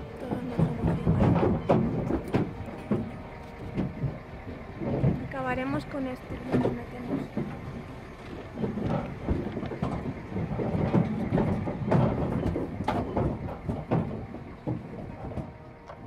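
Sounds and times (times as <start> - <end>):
knocks and rattles: 0.0 - 16.0
truck rumble: 0.0 - 16.0.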